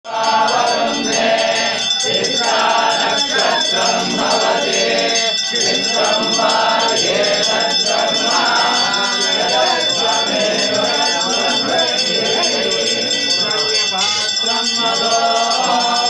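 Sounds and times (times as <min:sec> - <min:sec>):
voices chanting together: 0:00.0 - 0:16.0
hand bell ringing: 0:00.1 - 0:16.0.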